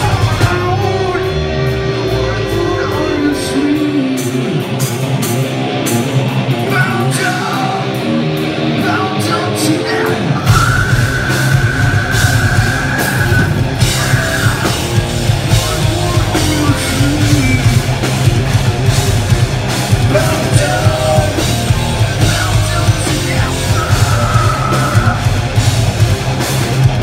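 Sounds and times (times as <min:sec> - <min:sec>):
live hard rock band: 0:00.0 - 0:27.0.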